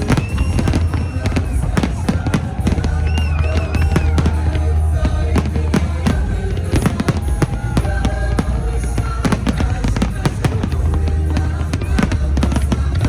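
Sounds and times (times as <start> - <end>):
fireworks bangs and crackles: 0.0 - 13.0
music with heavy bass: 0.0 - 13.0.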